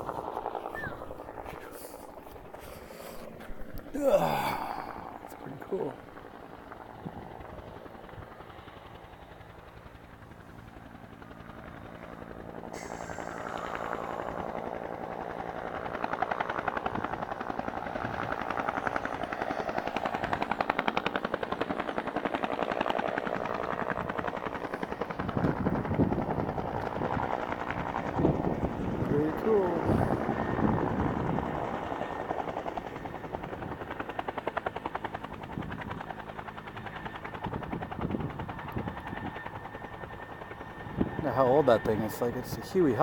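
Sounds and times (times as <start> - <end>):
helicopter rotor beating: 0.0 - 43.0.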